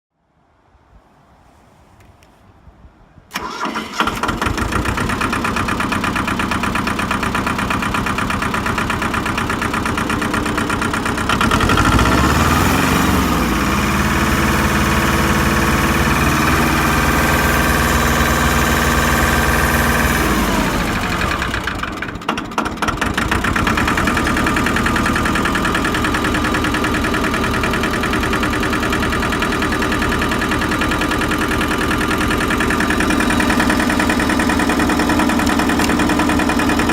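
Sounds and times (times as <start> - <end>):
tractor engine starting and idling: 3.3 - 36.9.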